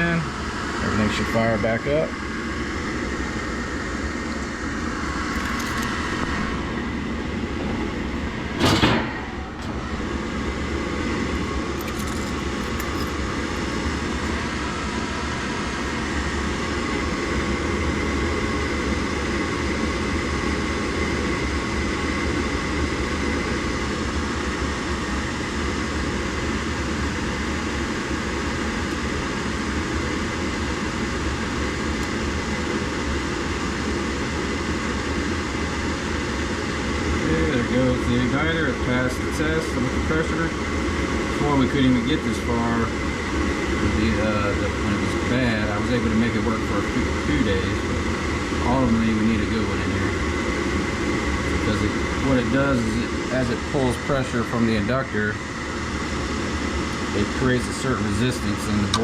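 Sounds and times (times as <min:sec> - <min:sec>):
furnace inducer motor running: 0:00.0 - 0:59.0.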